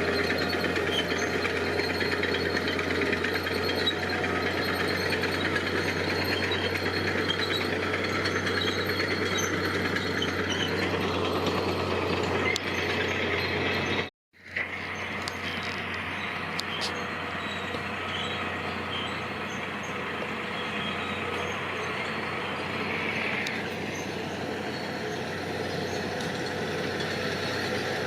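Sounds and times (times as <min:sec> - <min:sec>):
diesel engine clattering: 0:00.0 - 0:28.0.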